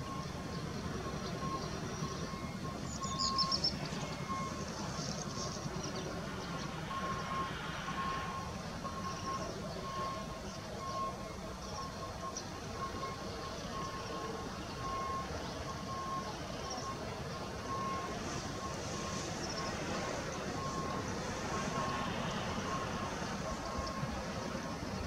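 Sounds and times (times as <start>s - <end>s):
electronic warning beeps: 0.0s - 25.0s
steam train rumbling: 0.0s - 25.0s.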